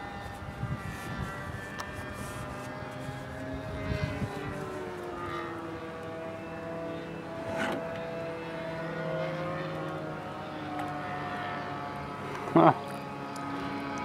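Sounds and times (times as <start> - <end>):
model airplane engine droning: 0.0 - 14.0.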